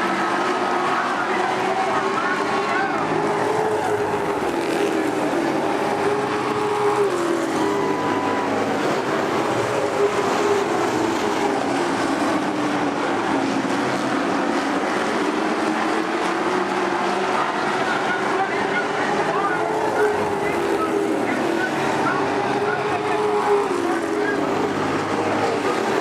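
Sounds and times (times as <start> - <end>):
racing truck engines revving: 0.0 - 26.0.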